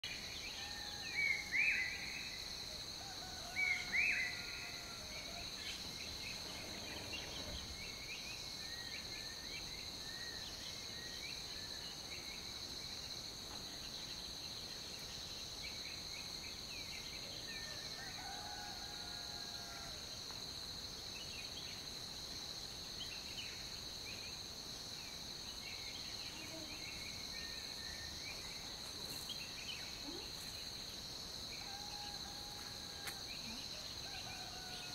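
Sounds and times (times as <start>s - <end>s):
insect drone: 0.0s - 34.9s.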